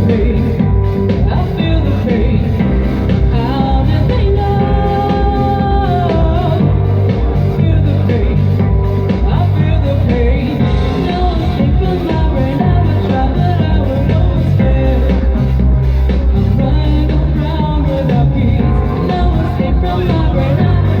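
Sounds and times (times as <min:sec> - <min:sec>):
person singing long sliding notes: 0:00.0 - 0:21.0
rock band playing live: 0:00.0 - 0:21.0.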